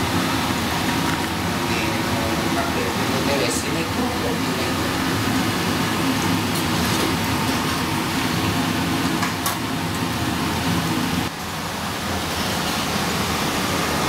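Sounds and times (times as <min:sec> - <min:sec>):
kitchen equipment hum and hiss: 0:00.0 - 0:14.0.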